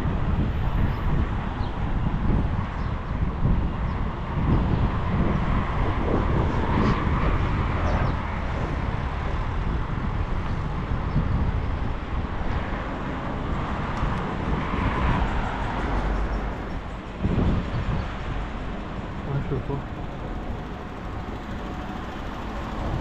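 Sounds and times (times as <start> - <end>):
street traffic: 0.0 - 23.0
wind rumbling on microphone: 0.0 - 23.0.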